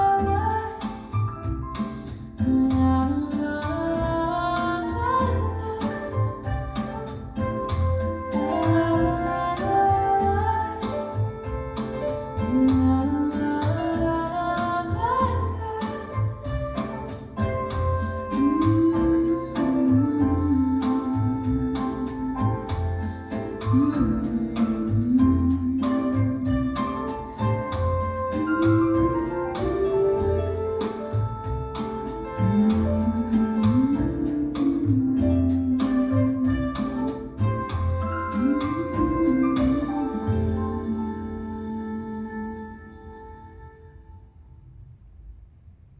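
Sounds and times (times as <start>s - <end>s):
kick drum and cymbals beat: 0.0s - 41.2s
sliding bass line: 0.0s - 43.6s
song over speakers: 2.4s - 42.8s.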